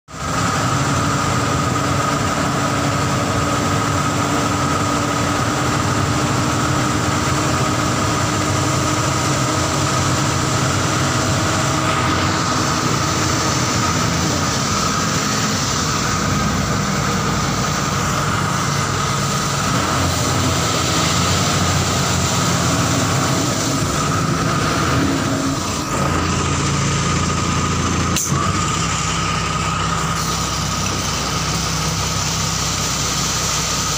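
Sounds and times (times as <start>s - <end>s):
high hydraulic whine: 0.1s - 33.9s
truck diesel engine running: 0.1s - 33.9s.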